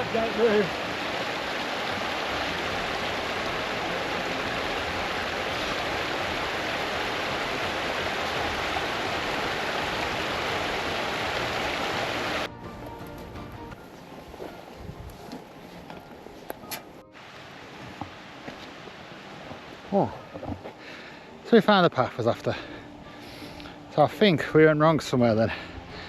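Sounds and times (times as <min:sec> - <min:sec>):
faint background music: 0:00.0 - 0:18.6, 0:19.2 - 0:26.0
stream rushing: 0:00.0 - 0:26.0.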